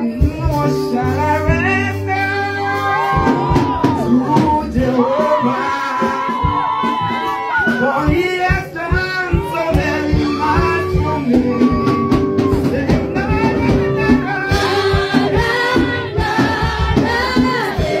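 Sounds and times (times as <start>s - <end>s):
man singing: 0.0s - 16.1s
backing music with steady beat: 0.0s - 18.0s.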